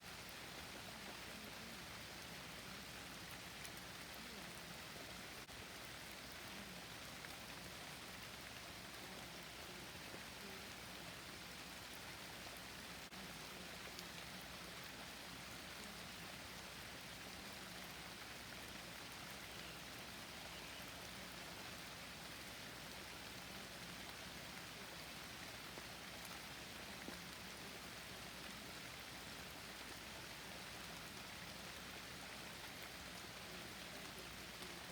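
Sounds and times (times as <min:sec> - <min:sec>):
rain falling on foliage: 0:00.0 - 0:34.9.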